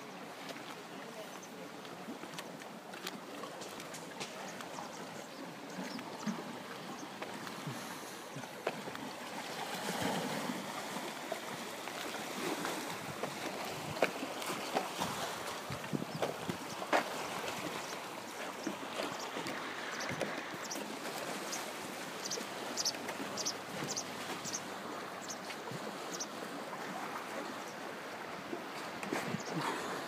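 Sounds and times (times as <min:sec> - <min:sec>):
water lapping against wooden pier: 0:00.0 - 0:30.0
wind: 0:00.0 - 0:30.0.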